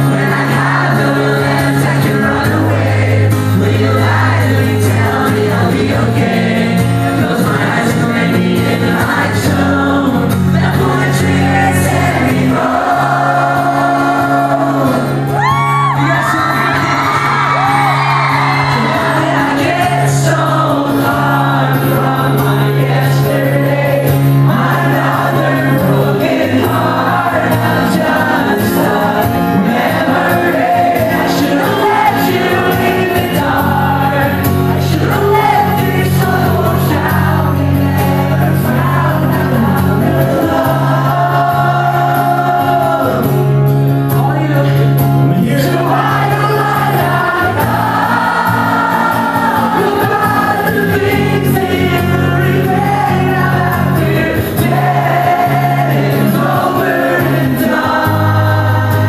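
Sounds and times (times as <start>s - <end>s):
crowd singing along: 0.0s - 59.0s
man singing lead vocals: 0.0s - 59.0s
strummed acoustic guitar: 0.0s - 59.0s.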